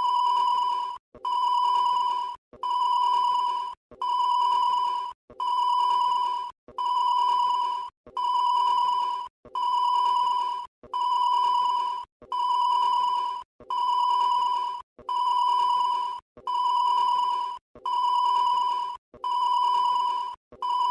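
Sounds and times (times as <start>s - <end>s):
electronic ringing tone: 0.0s - 20.9s.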